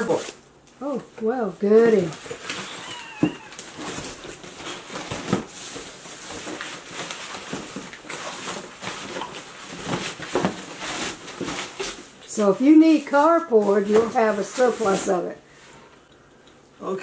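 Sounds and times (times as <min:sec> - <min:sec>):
cardboard rustling and scraping: 0:01.6 - 0:15.8.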